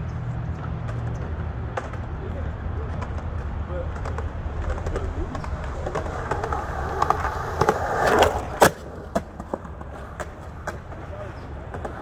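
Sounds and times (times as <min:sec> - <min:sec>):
skateboard rolling: 0:00.2 - 0:12.0
skateboard clack: 0:00.5 - 0:12.0.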